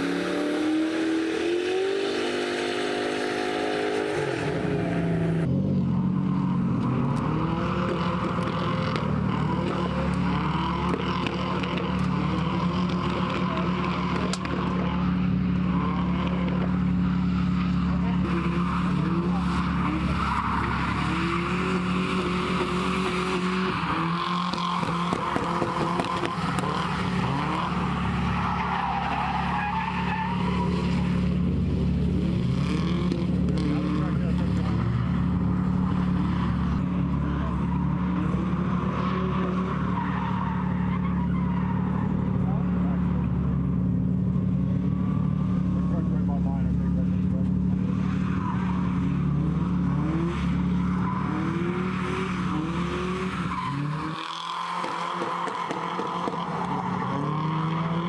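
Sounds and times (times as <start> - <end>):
car engines revving: 0.0 - 58.0
tyres skidding: 0.0 - 58.0.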